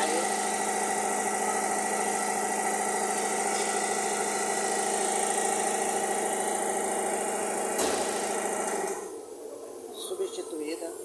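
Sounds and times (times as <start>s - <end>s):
vehicle engine humming: 0.0s - 9.2s.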